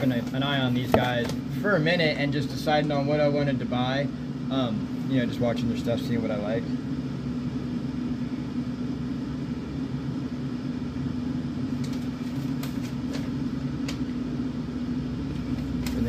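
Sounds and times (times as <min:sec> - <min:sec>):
fan motor humming: 0:00.0 - 0:16.0.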